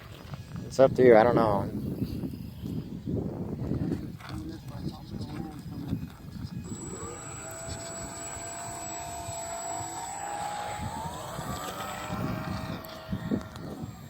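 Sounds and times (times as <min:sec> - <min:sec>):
wind on microphone: 0:00.0 - 0:14.0
model airplane motor whining: 0:02.2 - 0:14.0.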